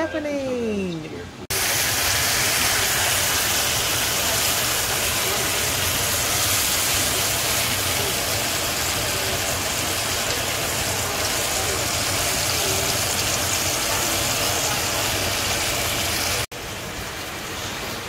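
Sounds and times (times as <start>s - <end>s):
meat sizzling in frying pan: 1.5s - 18.0s.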